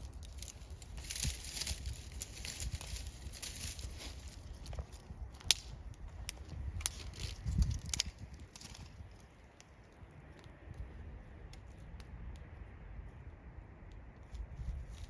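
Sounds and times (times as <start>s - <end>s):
wood fire crackling: 0.0s - 12.1s.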